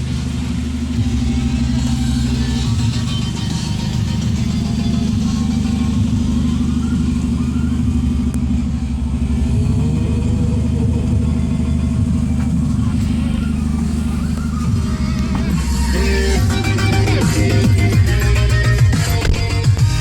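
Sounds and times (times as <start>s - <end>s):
loud exhaust drone: 0.0s - 20.0s.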